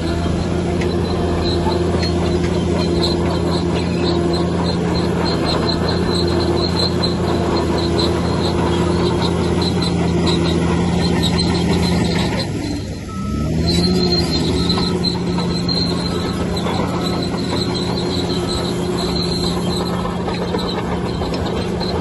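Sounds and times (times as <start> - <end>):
bulldozer diesel engine running: 0.0 - 22.0
high metallic squeak: 0.0 - 22.0.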